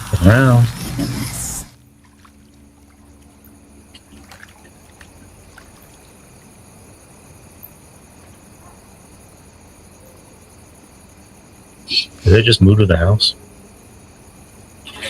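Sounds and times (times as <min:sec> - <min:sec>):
faint background ambience: 0:00.0 - 0:15.0.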